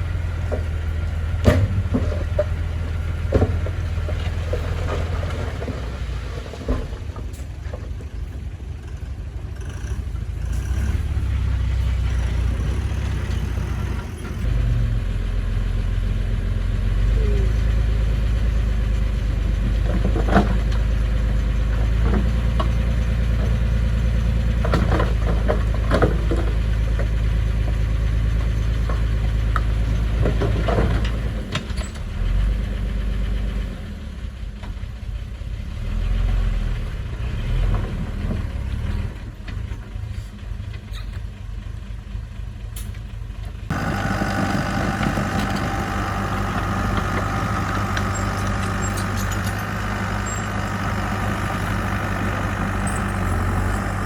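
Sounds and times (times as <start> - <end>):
diesel engine drone under load: 0.0 - 54.0.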